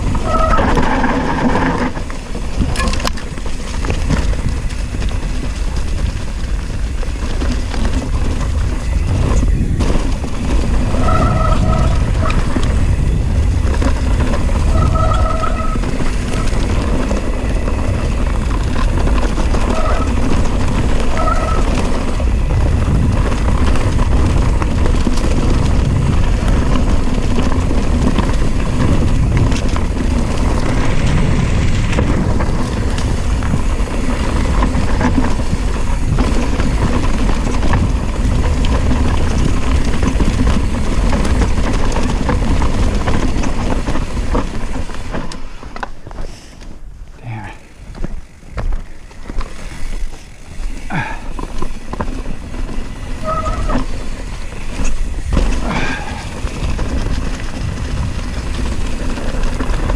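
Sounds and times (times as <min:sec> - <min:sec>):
bike tyres and frame rattling: 0:00.0 - 0:59.9
wind rushing over microphone: 0:00.0 - 0:59.9.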